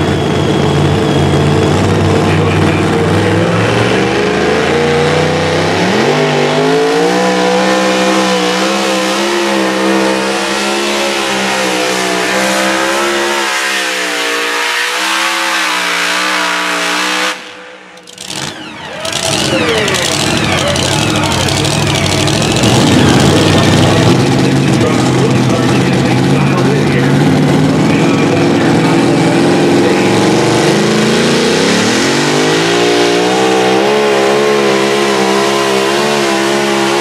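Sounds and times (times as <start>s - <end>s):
truck engine at full throttle: 0.0s - 37.0s.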